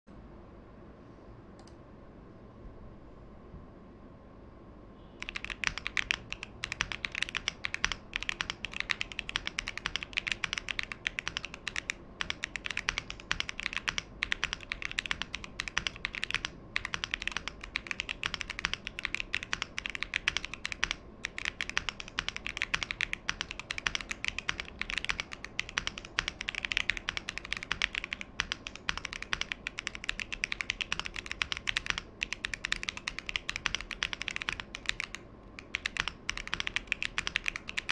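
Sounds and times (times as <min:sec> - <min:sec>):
fast mechanical keyboard typing: 0:05.2 - 0:37.9.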